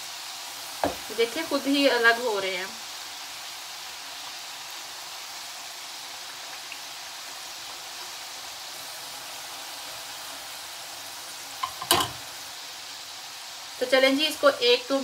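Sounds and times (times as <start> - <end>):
dough deep-frying in oil: 0.0 - 15.0.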